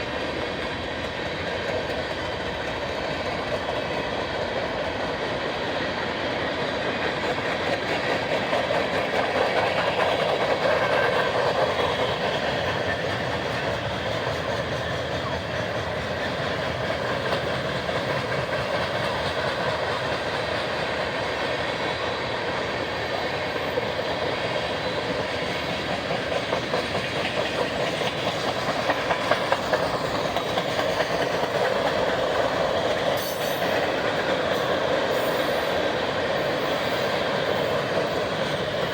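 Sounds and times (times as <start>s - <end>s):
steel wheels rushing on rail: 0.0s - 38.9s.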